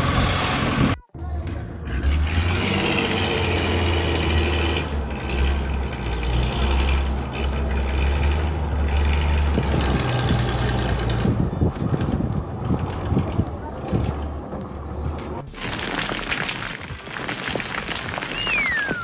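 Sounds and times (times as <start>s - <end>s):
heavy vehicle engine humming: 0.0s - 15.5s.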